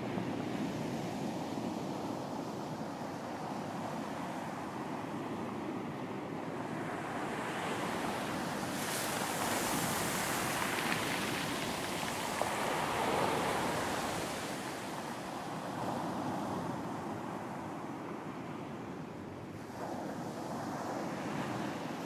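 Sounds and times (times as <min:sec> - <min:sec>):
surf washing up on beach: 0:00.0 - 0:18.4.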